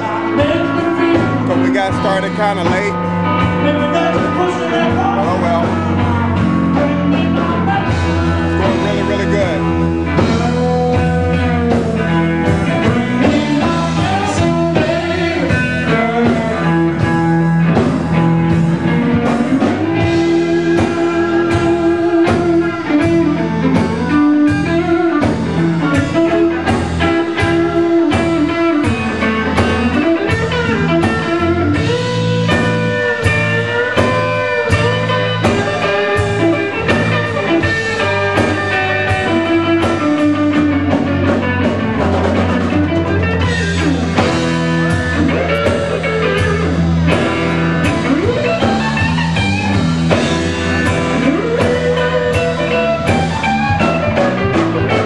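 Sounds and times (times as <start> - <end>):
bass guitar: 0.0 - 55.0
electric guitar lead: 0.0 - 55.0
steady drum beat: 0.0 - 55.0.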